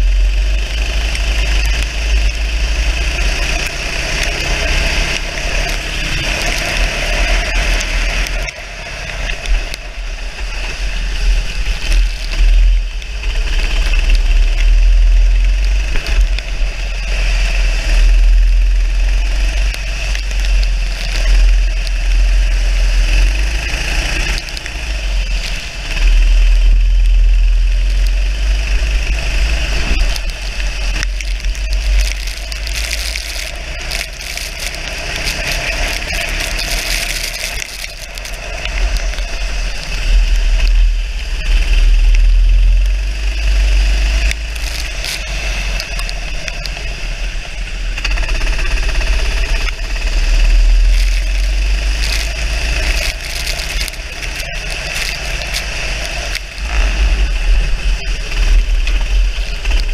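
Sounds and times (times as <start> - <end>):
kart engine running hard: 0.0 - 59.9
wind rumbling on microphone: 0.0 - 59.9.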